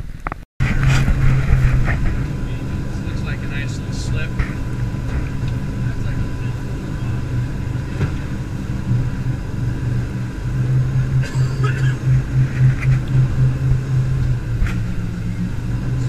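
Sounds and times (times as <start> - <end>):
jet boat engine drone: 0.0 - 16.0.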